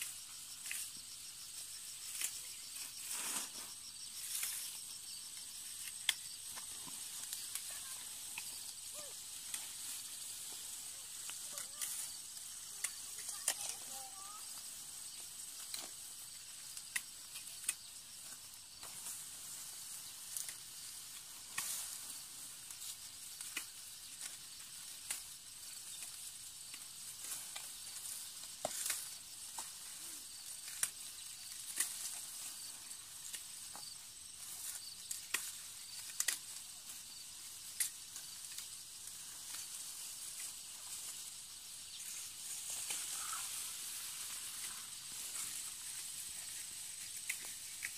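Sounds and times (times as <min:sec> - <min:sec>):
rice stalks rustling and snapping: 0:00.0 - 0:47.9
steady high hiss: 0:00.0 - 0:47.9.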